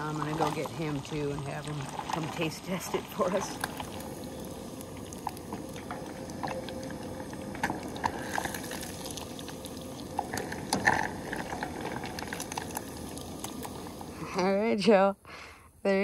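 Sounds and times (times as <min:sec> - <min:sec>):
hot oil bubbling and crackling: 0:00.0 - 0:14.8.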